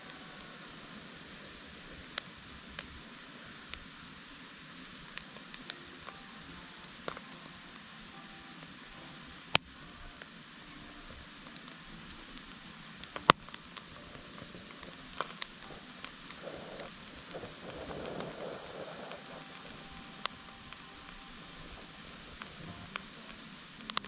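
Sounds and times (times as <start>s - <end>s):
campfire hissing and crackling: 0.0s - 24.0s
sharp pops of burning wood: 0.1s - 10.6s, 11.3s - 24.0s.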